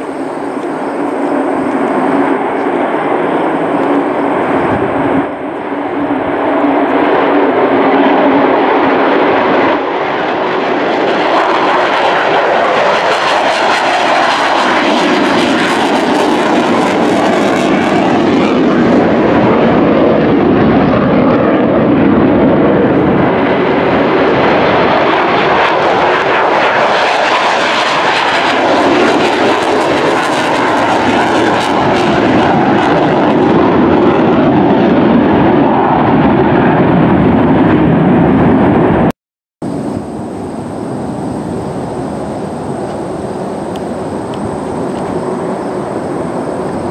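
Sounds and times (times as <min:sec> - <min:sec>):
jet engine roar: 0:00.0 - 0:46.9.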